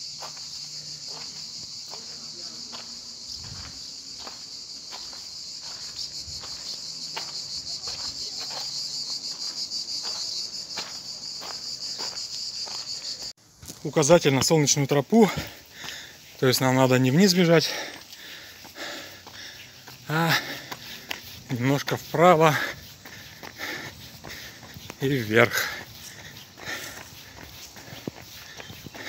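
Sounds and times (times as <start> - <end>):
insects chirring: 0.0 - 29.0
light footsteps: 0.2 - 16.6, 17.2 - 29.0.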